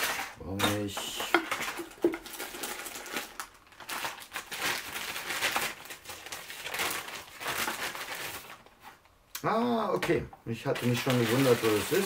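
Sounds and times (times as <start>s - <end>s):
plastic bag crinkling: 0.0s - 9.1s, 10.5s - 12.0s.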